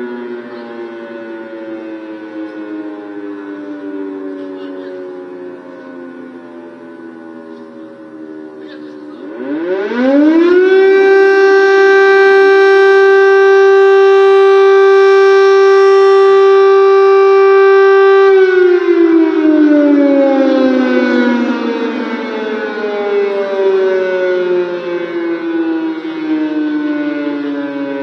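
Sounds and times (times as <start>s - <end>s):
air raid siren winding: 0.0s - 8.6s, 9.2s - 28.0s.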